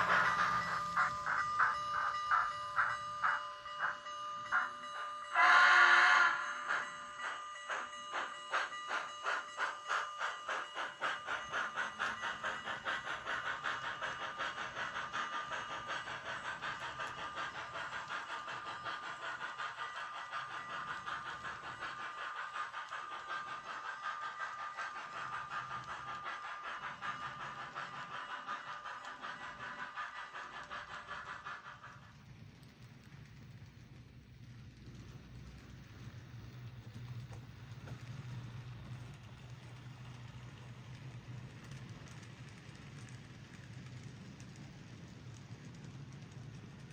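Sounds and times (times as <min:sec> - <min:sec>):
model steam locomotive chuffs: 0:00.0 - 0:46.9.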